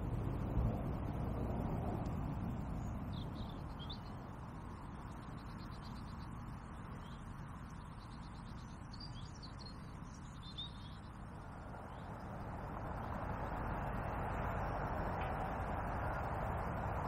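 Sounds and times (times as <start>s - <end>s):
small birds chirping faintly: 0.0s - 17.0s
steady outdoor rushing noise: 0.0s - 17.0s.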